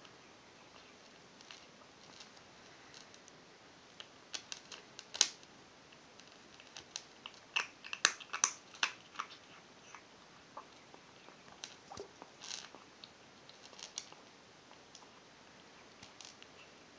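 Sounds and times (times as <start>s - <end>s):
kitten crunching dry kibble: 1.0s - 15.2s, 15.8s - 16.6s.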